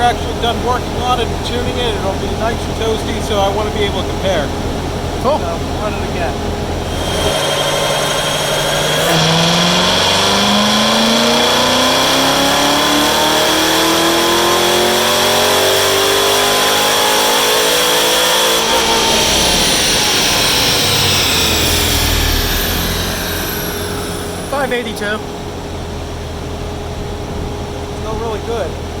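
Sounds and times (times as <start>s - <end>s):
car engine revving on dyno: 0.0s - 29.0s
dyno rollers coasting: 0.0s - 29.0s.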